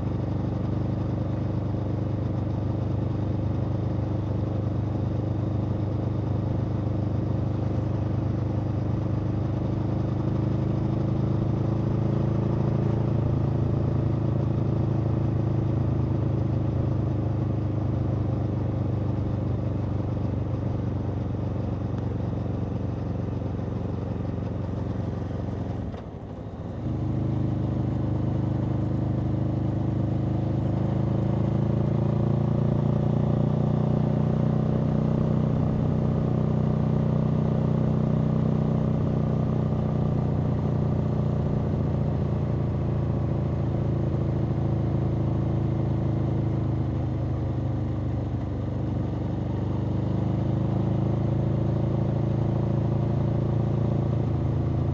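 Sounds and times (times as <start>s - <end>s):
motorcycle engine running: 0.1s - 54.9s.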